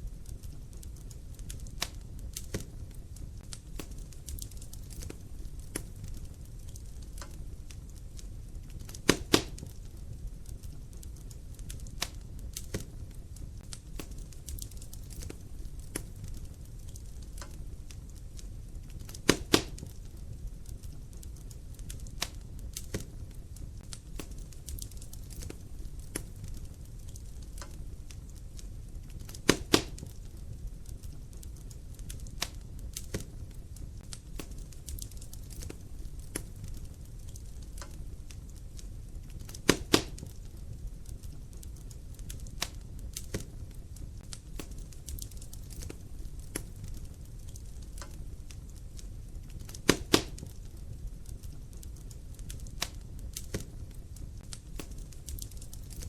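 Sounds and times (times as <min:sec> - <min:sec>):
fire crackling: 0:00.0 - 0:56.0
fire rumbling: 0:00.0 - 0:56.0
wood popping in fire: 0:00.0 - 0:56.0.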